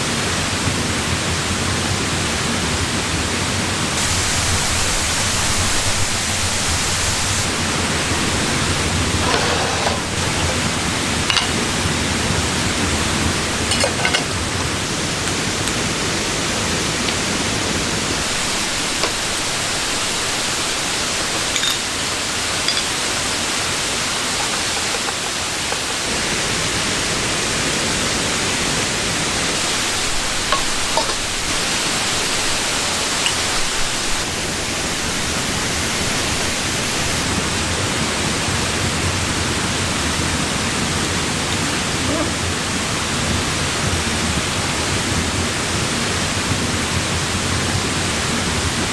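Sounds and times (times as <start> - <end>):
water rushing: 0.0 - 48.9.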